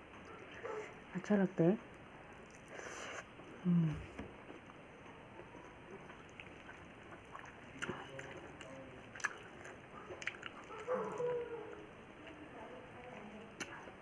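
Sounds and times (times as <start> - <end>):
chewing with wet squishes: 1.9 - 3.6, 4.4 - 14.0.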